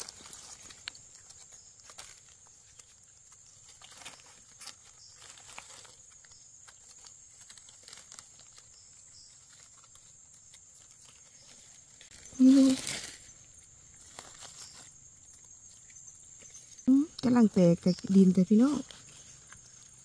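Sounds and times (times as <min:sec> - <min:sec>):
leaf litter rustling: 0:00.0 - 0:20.0.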